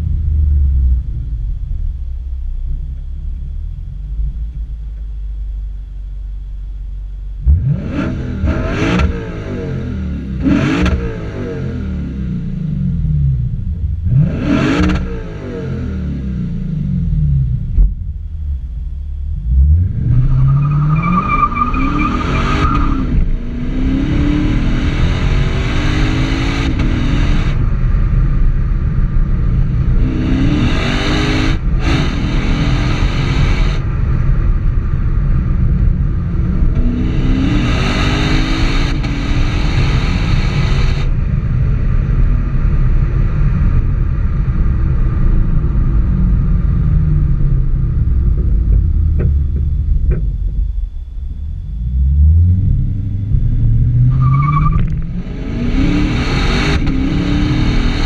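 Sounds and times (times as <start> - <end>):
car exhaust accelerating hard: 0.0 - 58.0.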